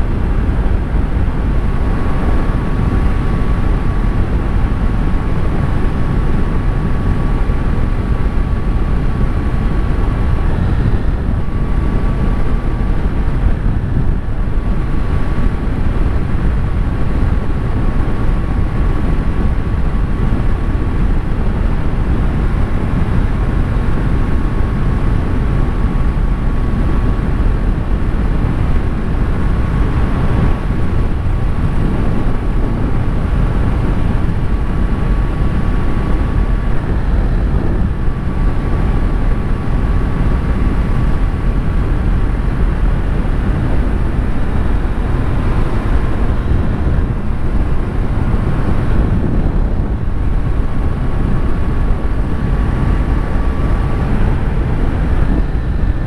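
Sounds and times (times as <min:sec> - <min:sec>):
faint steady whine: 0:00.0 - 0:56.0
wind buffeting microphone: 0:00.0 - 0:56.0.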